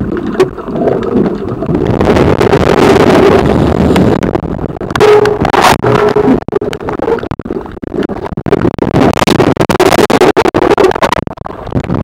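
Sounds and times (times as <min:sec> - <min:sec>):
rushing water: 0:00.0 - 0:12.0
underwater crackles and knocks: 0:00.0 - 0:12.0.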